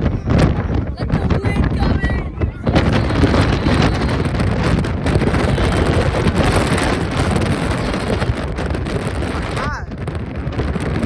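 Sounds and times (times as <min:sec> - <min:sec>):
jet engines roaring: 0:00.0 - 0:11.0
wind buffeting microphone: 0:00.0 - 0:11.0.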